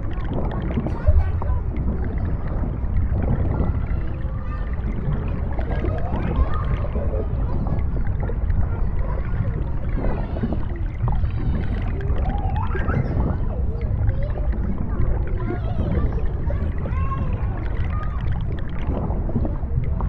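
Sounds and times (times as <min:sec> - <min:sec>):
underwater low rumble: 0:00.0 - 0:20.0
wavering gliding tones: 0:00.0 - 0:20.0.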